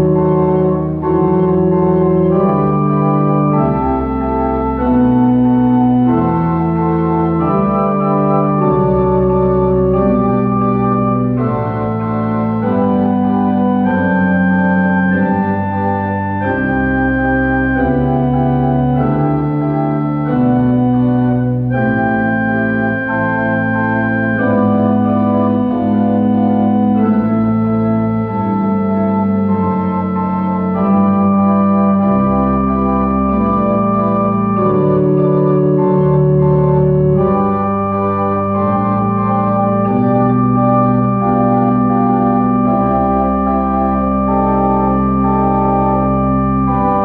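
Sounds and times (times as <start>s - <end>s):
pipe organ playing sustained chords: 0.0s - 47.0s.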